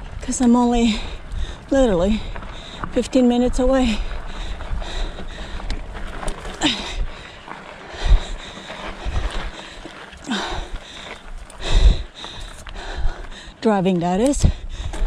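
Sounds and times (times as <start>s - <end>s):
wind rumble on microphone: 0.0s - 13.4s, 14.2s - 15.0s
low thumps from bike: 0.1s - 13.4s, 14.1s - 15.0s
rider breathing out: 0.9s - 3.0s, 3.9s - 13.7s, 14.4s - 15.0s.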